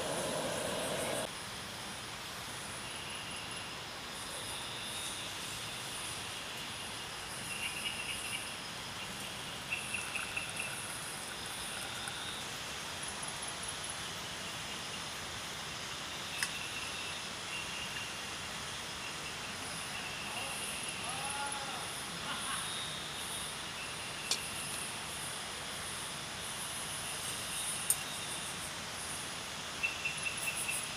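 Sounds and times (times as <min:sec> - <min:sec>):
crickets chirping: 0:00.0 - 0:01.5, 0:02.2 - 0:30.9
steady hiss: 0:00.0 - 0:30.9.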